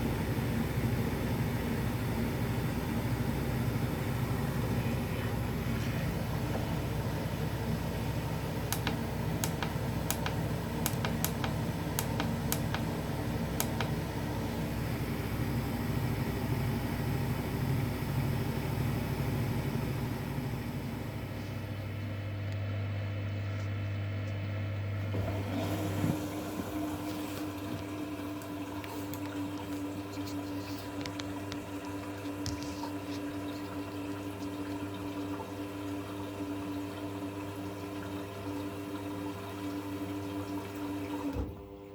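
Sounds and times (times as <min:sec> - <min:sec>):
washing machine running: 0:00.0 - 0:41.9.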